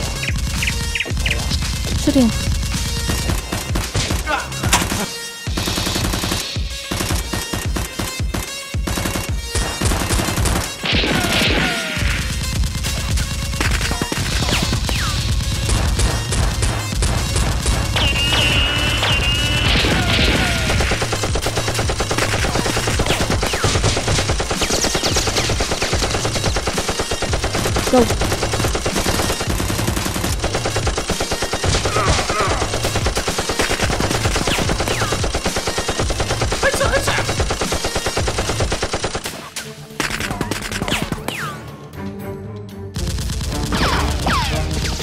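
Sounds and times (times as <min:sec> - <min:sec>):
rapid automatic gunfire: 0:00.0 - 0:41.3, 0:43.0 - 0:45.0
background music: 0:00.0 - 0:45.0.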